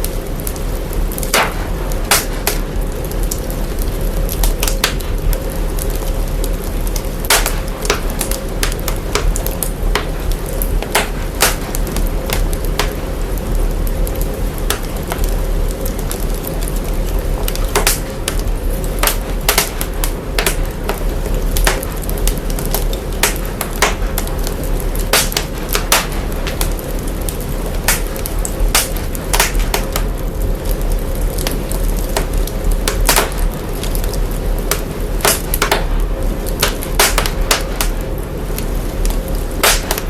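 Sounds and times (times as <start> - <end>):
processed fire crackling: 0.0 - 40.0
steady hum: 0.0 - 40.0.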